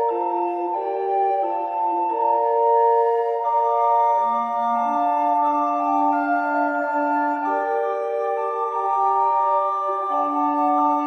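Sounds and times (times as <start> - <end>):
recorders playing in harmony: 0.0 - 11.0.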